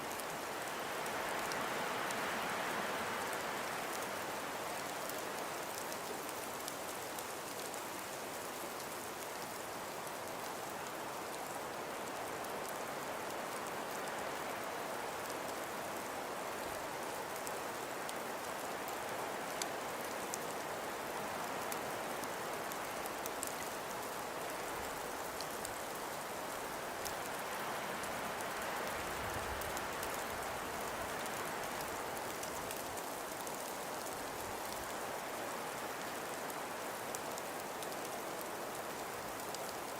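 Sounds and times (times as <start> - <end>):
snowstorm wind hiss: 0.0 - 39.9.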